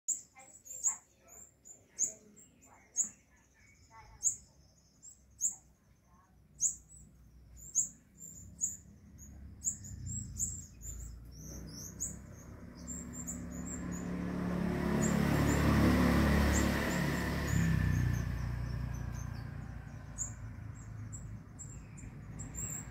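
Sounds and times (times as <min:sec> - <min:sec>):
high bird chirps: 0:00.1 - 0:22.9.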